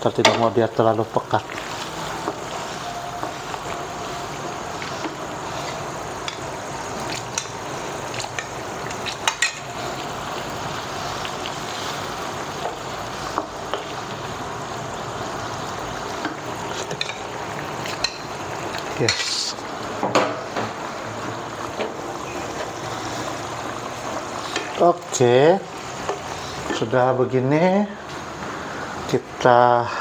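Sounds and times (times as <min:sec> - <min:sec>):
sauce simmering in a wok: 0:00.0 - 0:29.4.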